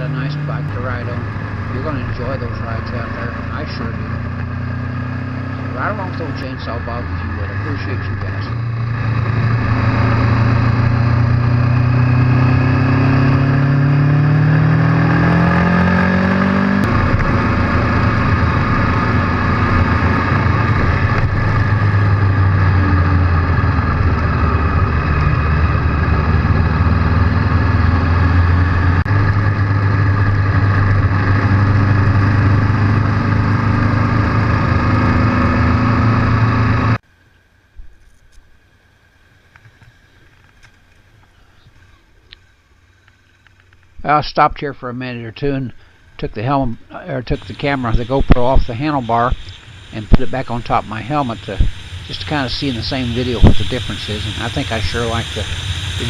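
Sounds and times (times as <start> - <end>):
motorcycle engine accelerating: 0.0 - 37.0, 46.1 - 56.0.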